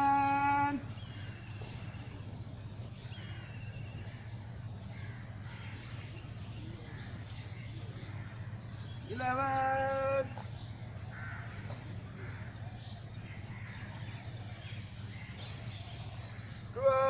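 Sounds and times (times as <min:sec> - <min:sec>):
steady low hum: 0:00.0 - 0:17.0
trilled bird calls: 0:00.0 - 0:17.0.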